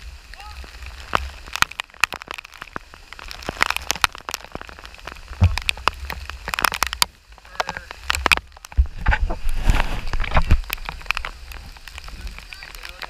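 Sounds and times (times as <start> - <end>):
raindrops tapping hard surface: 0.0 - 13.0.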